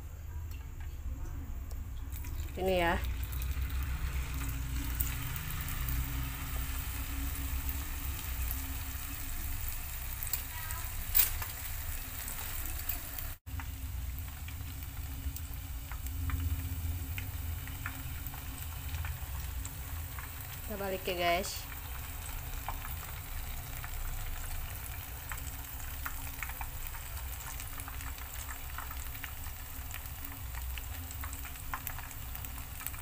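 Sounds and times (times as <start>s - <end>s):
oil sizzling with crackles: 0.4s - 33.0s.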